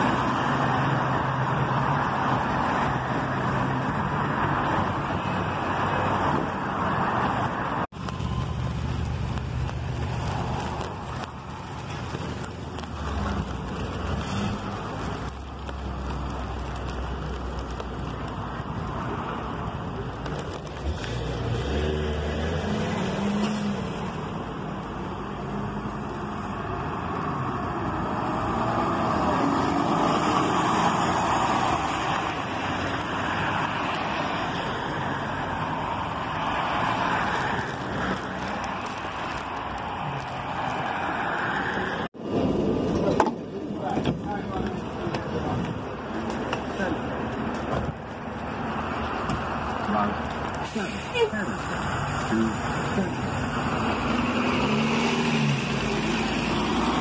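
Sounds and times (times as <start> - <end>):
bus engine rumbling: 0.0 - 57.0
cars passing: 0.0 - 57.0.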